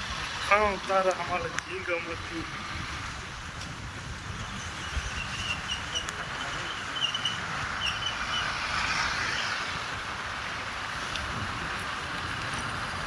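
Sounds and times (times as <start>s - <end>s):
moving vehicle rumble: 0.0s - 13.0s.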